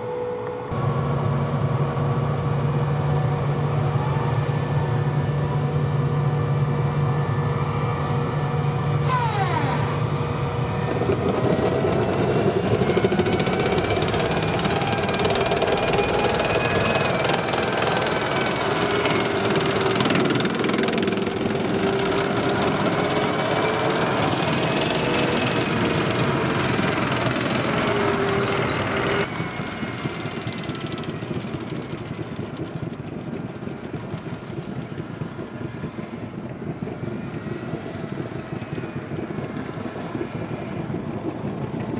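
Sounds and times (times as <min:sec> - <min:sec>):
tank turbine whine: 0:00.0 - 0:41.9.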